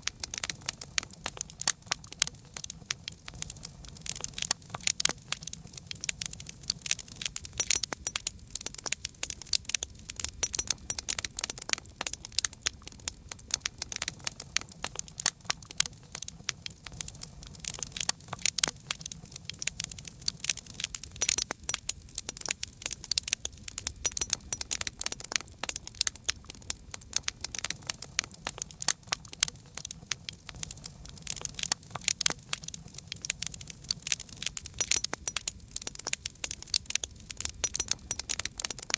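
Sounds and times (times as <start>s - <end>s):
campfire crackling: 0.0s - 38.9s
low steady background rumble: 0.0s - 38.9s.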